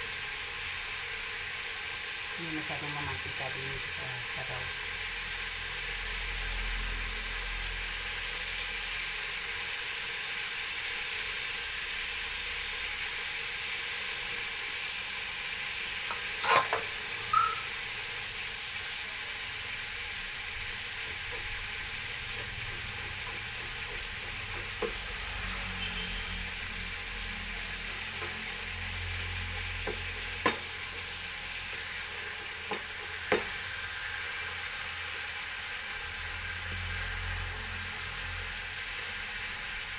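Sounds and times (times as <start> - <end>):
liver sizzling in a frying pan: 0.0 - 39.9.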